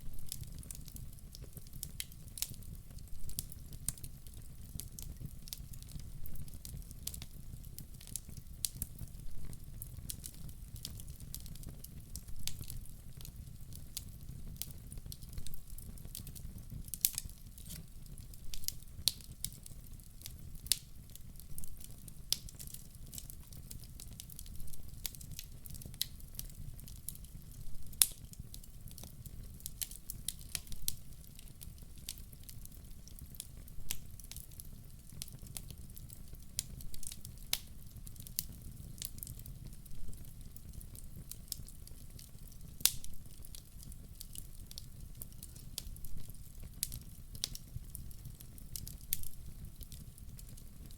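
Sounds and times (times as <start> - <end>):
fire crackling and popping: 0.0 - 50.9
low rumble of flames: 0.0 - 50.9.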